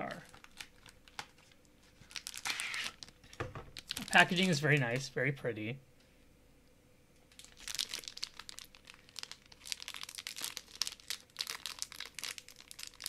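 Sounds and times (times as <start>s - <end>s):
plastic wrapper crinkling: 0.0s - 5.1s, 7.3s - 13.0s.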